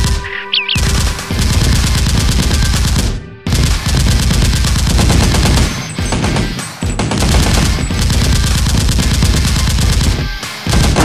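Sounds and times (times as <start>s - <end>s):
background music: 0.0s - 11.0s
automatic gunfire sound effects: 0.8s - 11.0s.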